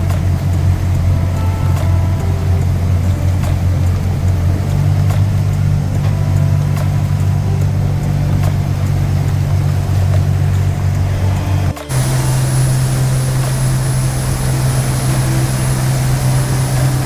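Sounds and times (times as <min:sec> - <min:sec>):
boat engines humming: 0:00.0 - 0:17.0.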